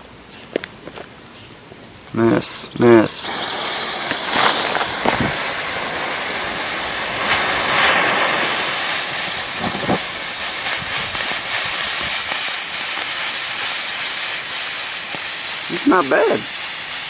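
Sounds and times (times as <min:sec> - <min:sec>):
smoke bomb hissing: 0:02.1 - 0:17.0.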